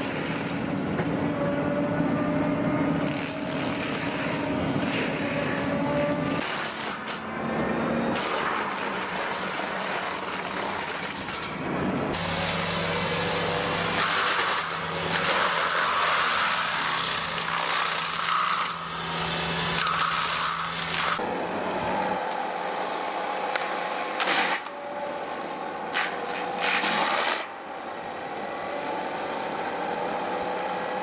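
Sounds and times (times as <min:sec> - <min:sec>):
mulcher shredding wood: 0:00.0 - 0:21.2, 0:23.4 - 0:27.6
heavy diesel machinery: 0:00.0 - 0:31.0.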